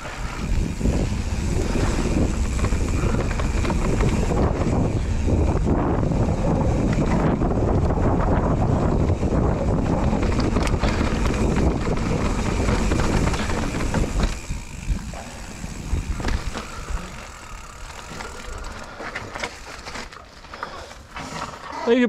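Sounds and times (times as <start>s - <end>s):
wind buffeting microphone: 0.0s - 19.4s
bike tyres rumbling over stones: 0.0s - 22.0s.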